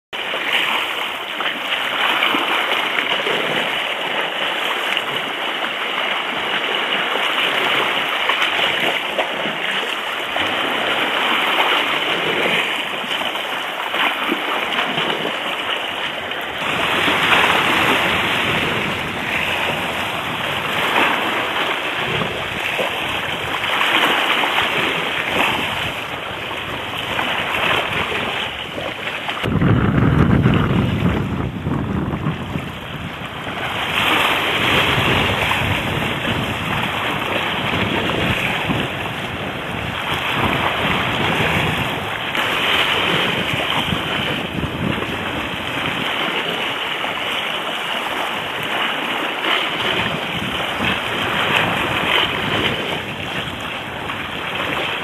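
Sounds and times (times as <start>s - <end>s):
water splashing around kayak: 0.2s - 55.0s.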